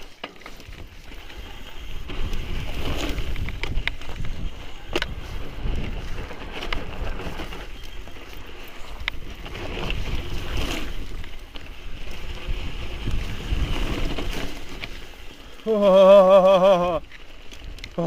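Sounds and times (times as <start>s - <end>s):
bike tyre noise on trail: 0.0s - 18.0s
wind rumbling on microphone: 0.0s - 18.0s.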